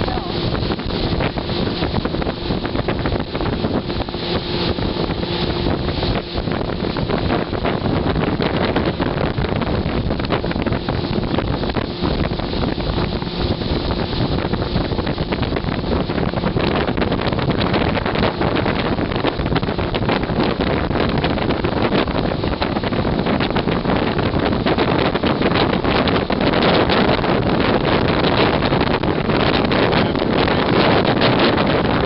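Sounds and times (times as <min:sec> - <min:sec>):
boat motor running: 0:00.0 - 0:32.0
rushing water: 0:00.0 - 0:32.0
wind buffeting microphone: 0:00.0 - 0:32.0.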